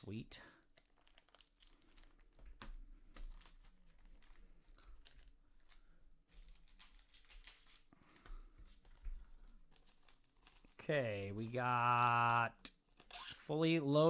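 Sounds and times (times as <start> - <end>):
faint handling clicks and rustles: 0.6 - 13.4.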